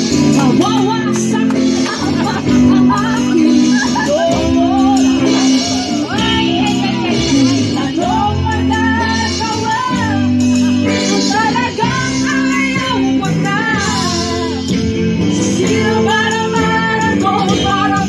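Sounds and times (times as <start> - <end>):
backing track music: 0.0 - 18.0
woman singing karaoke: 0.1 - 18.0.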